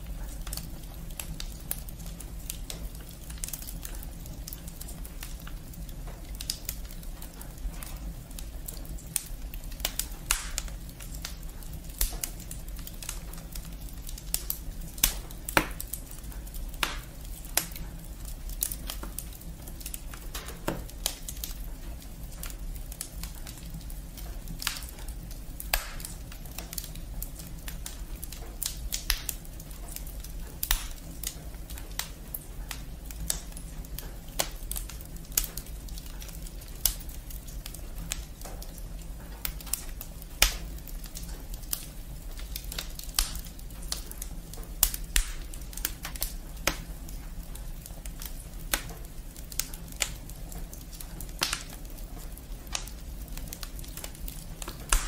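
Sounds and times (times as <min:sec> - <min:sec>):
low steady fire rumble: 0:00.0 - 0:55.0
wood fire crackling: 0:00.0 - 0:55.0
firewood popping: 0:00.3 - 0:55.0.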